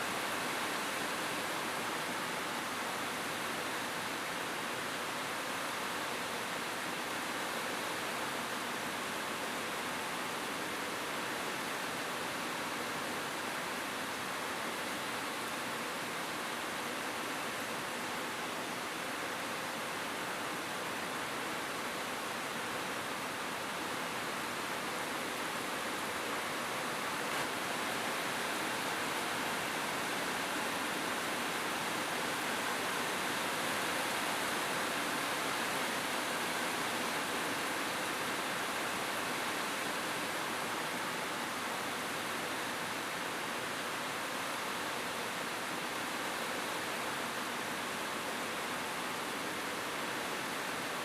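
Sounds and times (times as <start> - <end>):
rain falling on a rooftop: 0.0 - 51.0.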